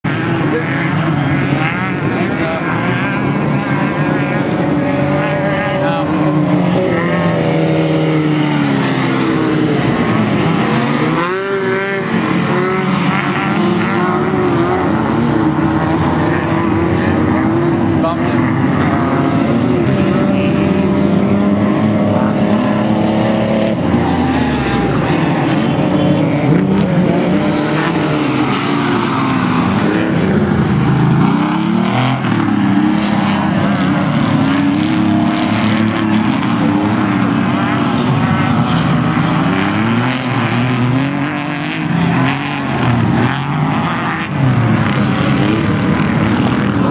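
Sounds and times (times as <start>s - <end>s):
race vehicle engine revving: 0.0s - 46.9s.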